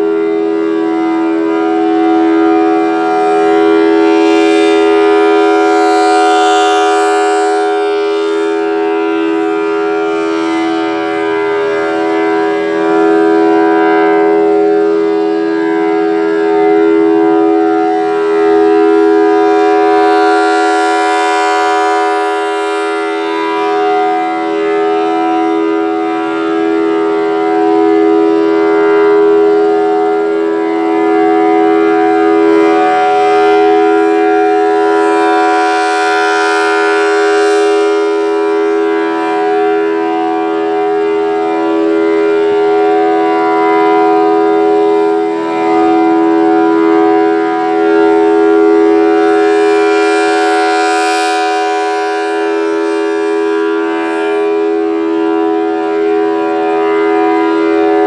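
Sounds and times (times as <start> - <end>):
rotating siren two-note tone: 0.0 - 58.0.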